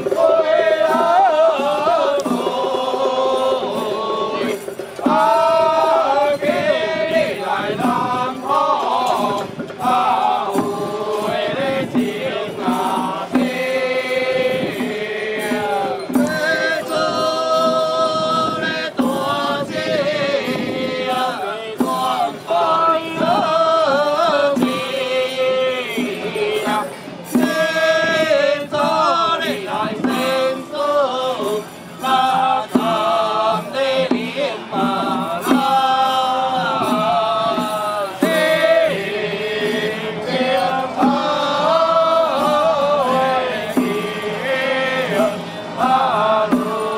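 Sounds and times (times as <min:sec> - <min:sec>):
ritual music: 0:00.0 - 0:46.9.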